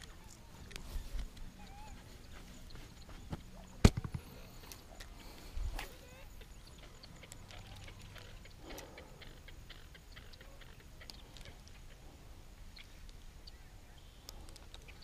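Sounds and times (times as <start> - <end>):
faint background hiss: 0.0 - 15.0
frogs or insects clicking and chirping: 0.0 - 15.0.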